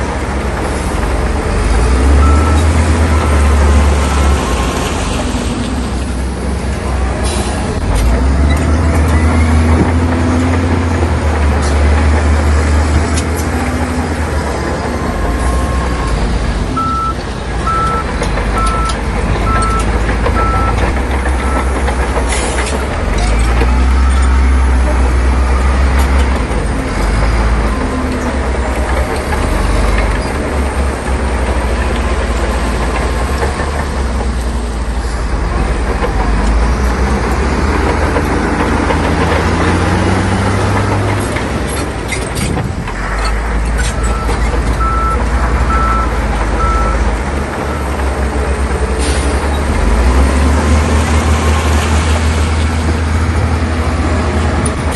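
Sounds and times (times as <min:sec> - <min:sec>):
heavy diesel machinery drone: 0:00.0 - 0:54.9.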